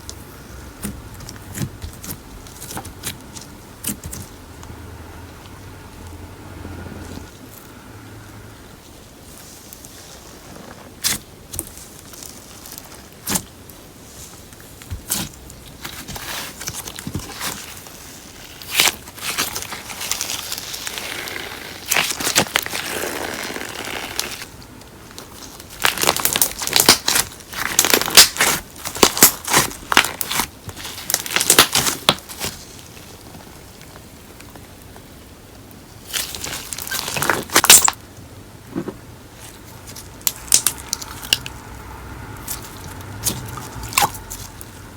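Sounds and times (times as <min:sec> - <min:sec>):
sticky slime crackles: 0:00.0 - 0:06.1, 0:09.2 - 0:44.9.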